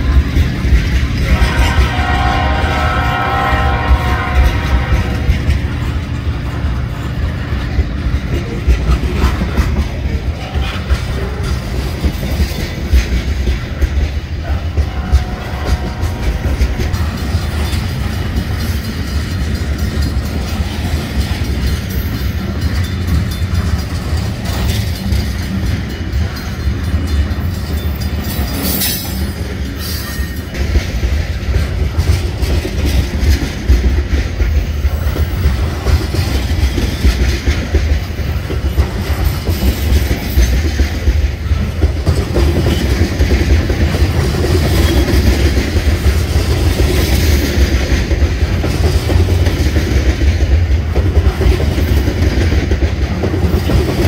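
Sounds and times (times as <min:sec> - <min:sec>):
steel wheels rumbling on rail: 0:00.0 - 0:54.0
wheels clicking over rail joints: 0:00.0 - 0:54.0.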